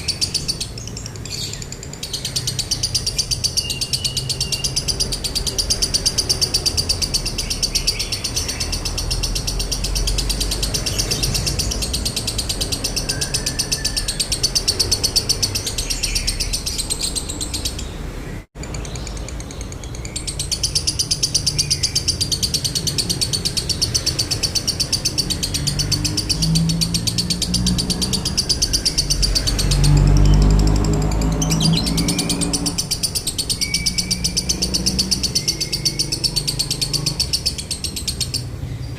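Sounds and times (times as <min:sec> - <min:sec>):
bird chattering trill: 0:00.0 - 0:38.9.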